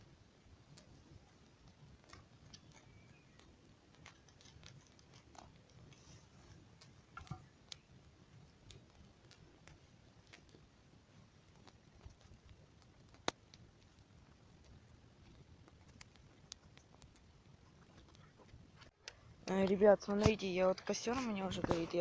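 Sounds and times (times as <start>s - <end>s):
faint scattered clicks: 0.7s - 22.0s.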